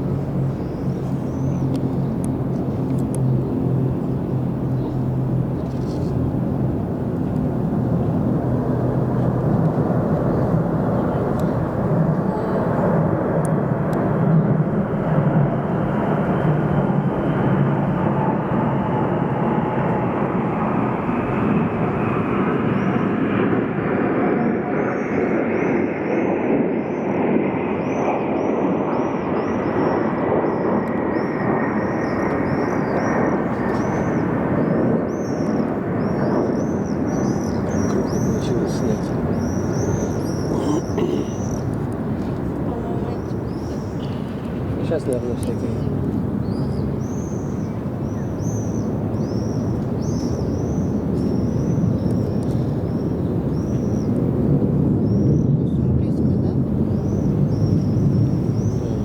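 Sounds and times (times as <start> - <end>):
aircraft roar overhead: 0.0 - 59.0.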